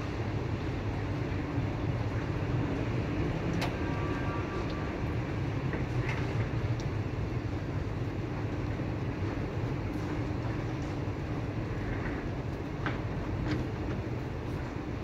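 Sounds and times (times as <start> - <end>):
low rumble of city traffic: 0.0 - 15.0
steady rain: 0.0 - 15.0.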